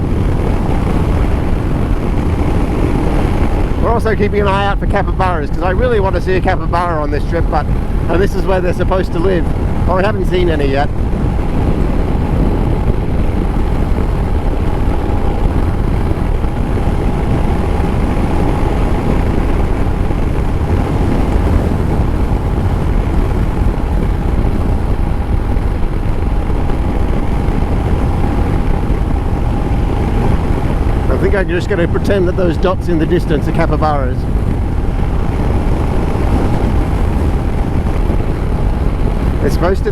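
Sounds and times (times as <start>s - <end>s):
motorcycle engine cruising: 0.0s - 39.9s
wind and road rush: 0.0s - 39.9s.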